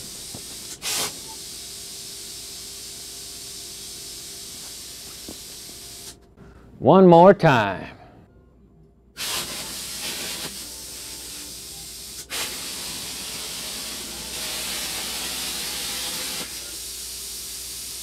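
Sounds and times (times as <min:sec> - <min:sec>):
plasma cutter arc hissing: 0:00.0 - 0:06.2, 0:09.2 - 0:18.0.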